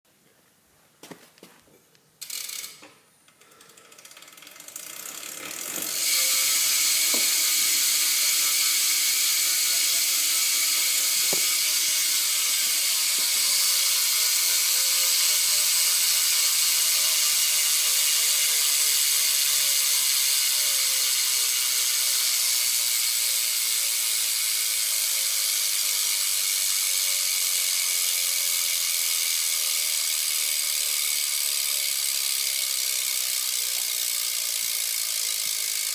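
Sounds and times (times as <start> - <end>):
bicycle hub ratchet buzzing: 2.2 - 35.9.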